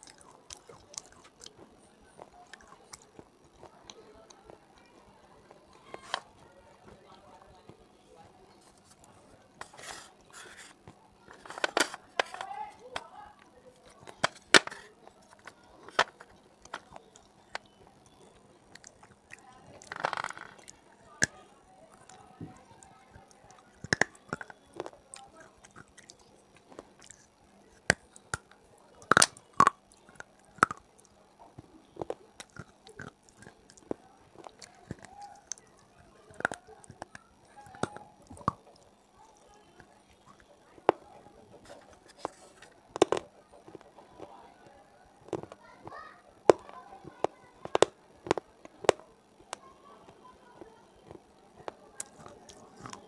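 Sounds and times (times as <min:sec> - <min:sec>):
hard clay crunching when chewed: 0:00.0 - 0:53.0.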